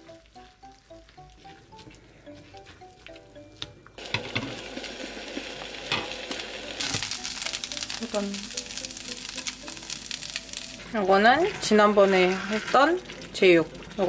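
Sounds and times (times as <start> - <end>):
patties sizzling in oil: 0.0 - 2.0, 4.0 - 14.0
light plucked music: 0.0 - 14.0.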